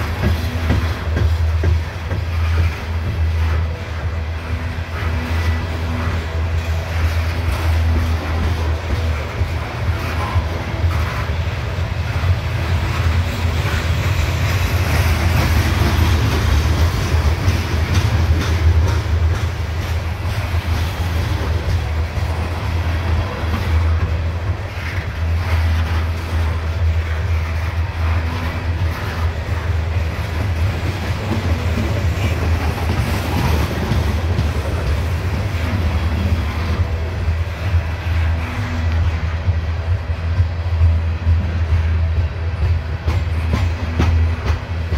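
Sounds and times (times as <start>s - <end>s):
clatter of wheels and couplings: 0.0s - 44.9s
rumble of train wheels on rails: 0.0s - 44.9s.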